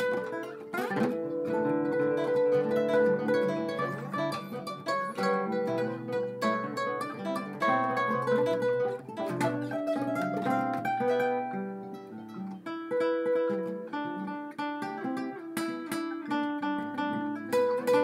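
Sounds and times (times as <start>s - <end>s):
acoustic guitar melody: 0.0s - 18.0s.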